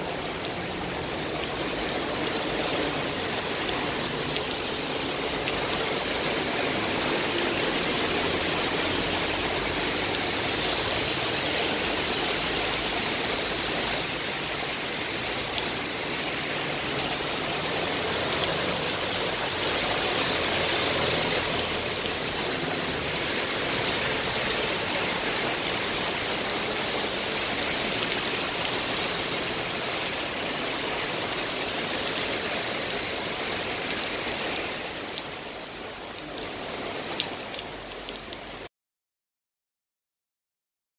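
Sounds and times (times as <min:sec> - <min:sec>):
heavy rain on pavement: 0:00.0 - 0:38.7.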